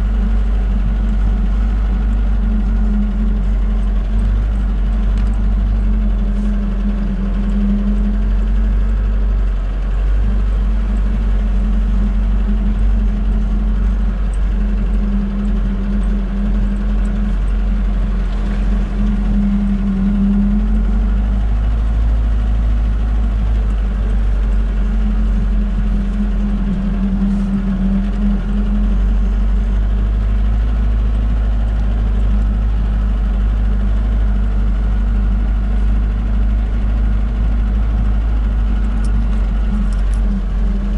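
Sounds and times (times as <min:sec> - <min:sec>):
van engine running: 0:00.0 - 0:40.9.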